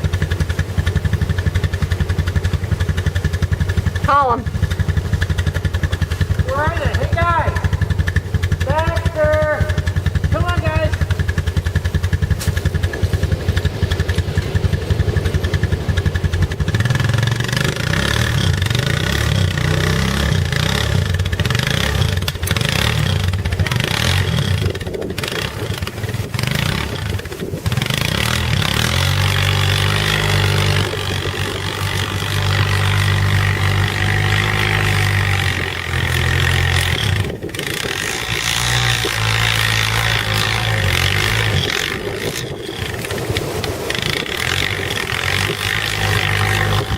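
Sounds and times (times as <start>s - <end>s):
atv engine putter: 0.0s - 46.9s.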